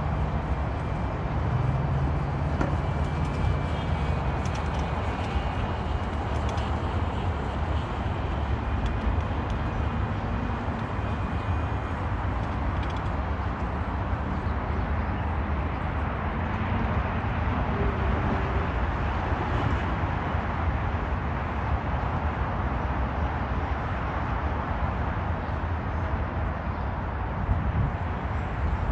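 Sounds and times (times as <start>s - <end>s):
low rumbling outdoor noise: 0.0s - 28.9s.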